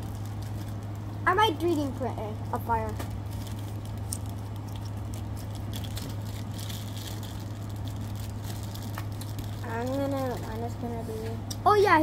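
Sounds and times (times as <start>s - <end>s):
sticky slime squishes: 0.0s - 11.6s
steady low hum: 0.0s - 12.0s.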